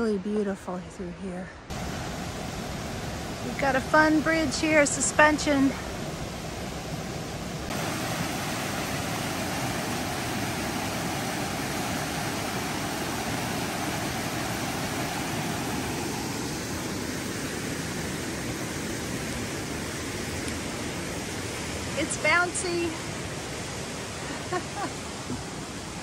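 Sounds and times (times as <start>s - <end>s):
mountain stream rushing over boulders: 1.7s - 26.0s.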